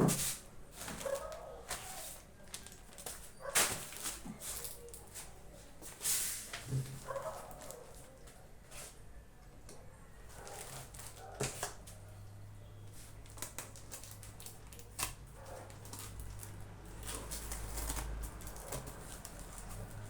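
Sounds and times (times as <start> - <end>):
paper rustling: 0.0 - 9.0, 10.3 - 12.0, 12.9 - 20.0.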